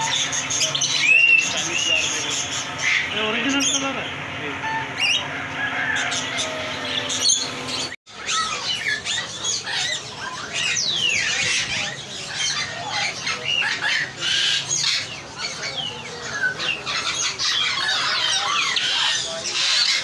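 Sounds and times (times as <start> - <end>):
birds chirping and whistling: 0.0 - 20.0
parrots squawking: 0.0 - 20.0.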